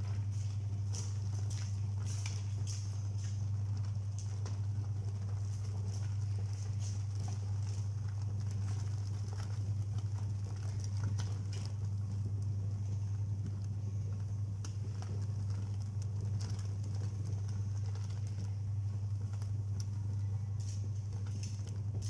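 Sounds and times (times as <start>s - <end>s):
clothes churning in water: 0.0s - 22.0s
washing machine motor humming: 0.0s - 22.0s.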